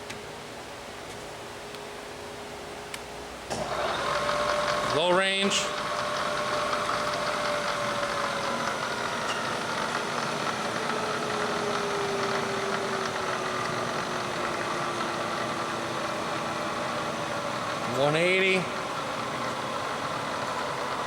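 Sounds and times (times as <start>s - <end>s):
milling machine spindle whine: 3.5s - 21.0s.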